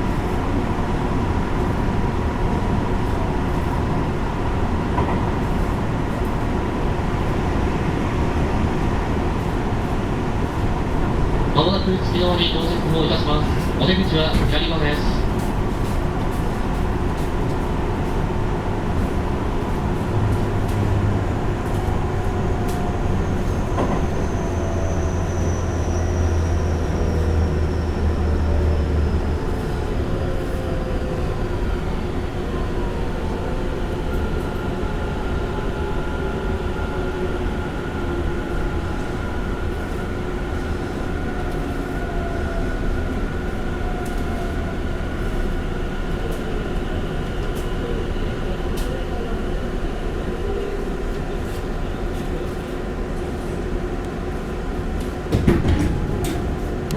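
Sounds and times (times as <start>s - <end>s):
train rolling noise: 0.0s - 56.9s.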